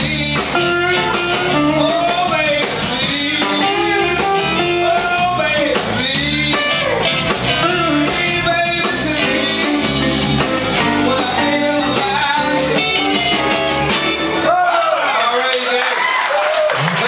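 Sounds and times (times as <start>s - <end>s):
electric bass: 0.0s - 14.6s
electric guitars: 0.0s - 14.6s
drum kit: 0.0s - 15.2s.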